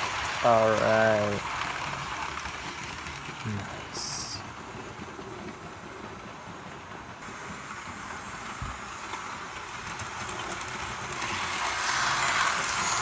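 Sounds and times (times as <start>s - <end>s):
model train motors and wheels whirring: 0.0s - 13.0s.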